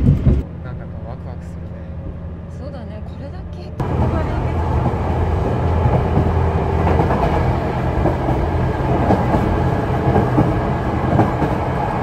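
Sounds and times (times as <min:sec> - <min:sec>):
train wheels and engine rumble: 0:00.0 - 0:12.0.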